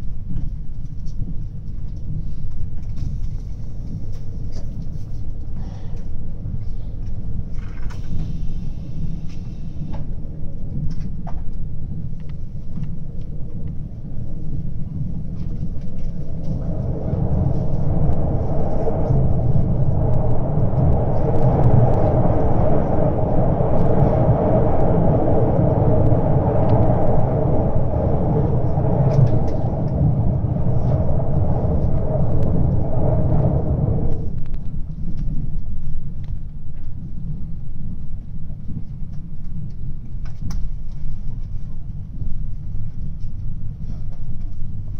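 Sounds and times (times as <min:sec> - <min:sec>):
train rumble inside carriage: 0:00.0 - 0:44.9.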